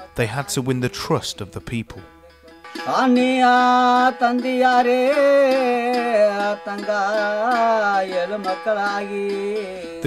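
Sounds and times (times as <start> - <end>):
man singing folk melody: 0.0 - 2.1, 2.8 - 10.0
plucked string instrument: 0.0 - 10.0.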